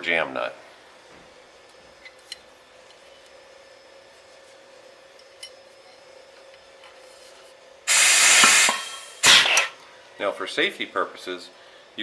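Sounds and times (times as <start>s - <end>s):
faint steady hum: 0.0s - 7.9s, 8.7s - 12.0s.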